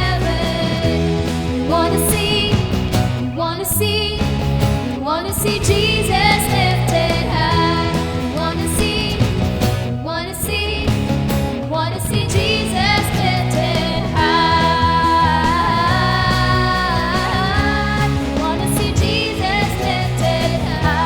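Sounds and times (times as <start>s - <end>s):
pop-rock band playing: 0.0s - 21.0s.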